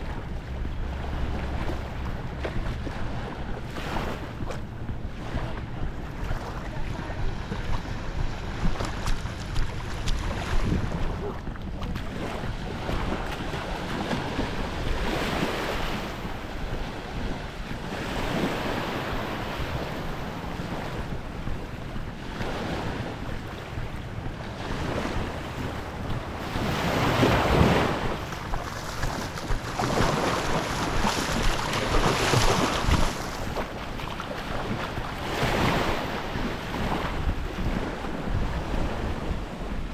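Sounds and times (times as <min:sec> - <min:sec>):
small waves washing onto beach: 0:00.0 - 0:39.9
wind rumbling on microphone: 0:00.0 - 0:39.9.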